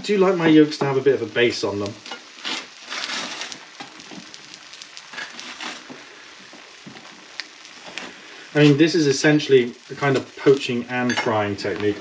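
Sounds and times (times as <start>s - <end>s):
eggs sizzling in a skillet: 0.0s - 12.0s.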